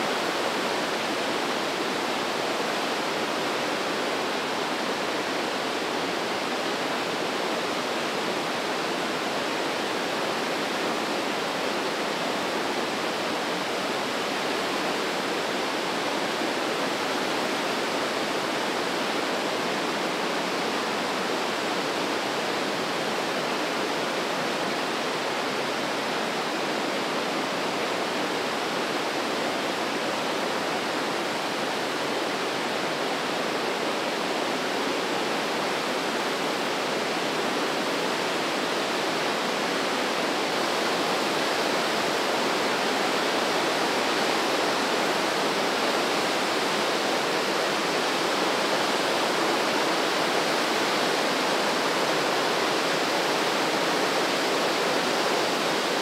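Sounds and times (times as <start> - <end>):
river rushing through a gorge: 0.0 - 56.0.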